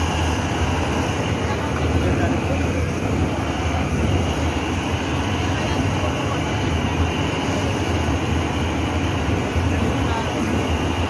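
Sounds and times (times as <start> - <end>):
gas burner roaring: 0.0 - 11.0.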